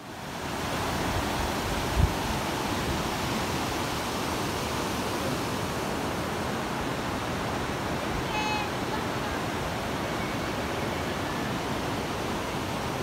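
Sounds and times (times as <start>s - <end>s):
river rushing over boulders: 0.0s - 13.0s.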